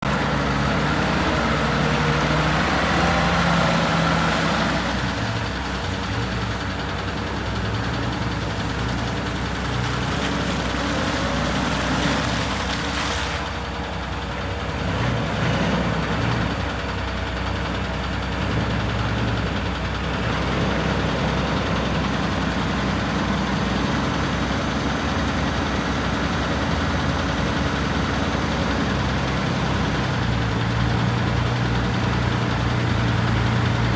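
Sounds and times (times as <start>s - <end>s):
forklift engine idling: 0.0s - 33.9s.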